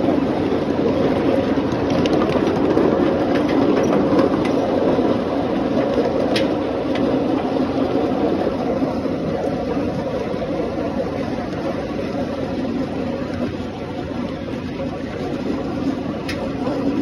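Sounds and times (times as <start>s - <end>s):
miniature train wheels rumbling: 0.0s - 17.0s.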